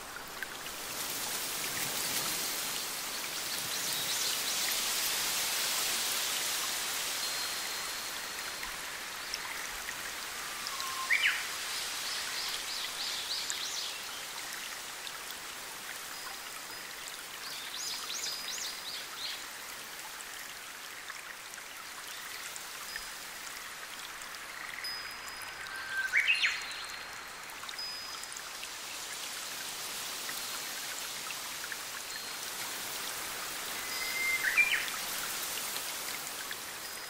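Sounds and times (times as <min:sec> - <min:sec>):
stream running over rocks: 0:00.0 - 0:37.0.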